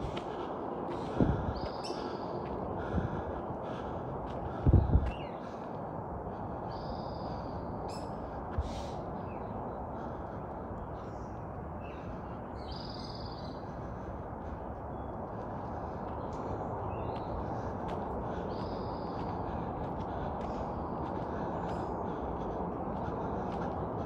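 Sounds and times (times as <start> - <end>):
birds harsh calls: 0.0 - 5.6, 6.7 - 24.0
low rushing background: 0.0 - 24.0.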